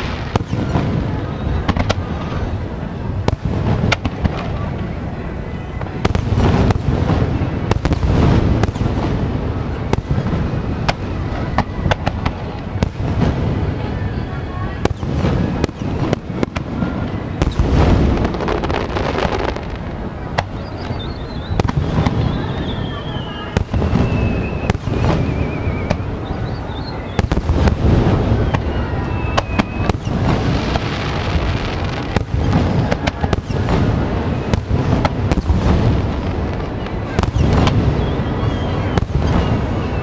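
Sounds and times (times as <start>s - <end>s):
fireworks bursting: 0.0s - 40.0s
falling firework whistle: 3.2s - 19.7s, 20.4s - 40.0s.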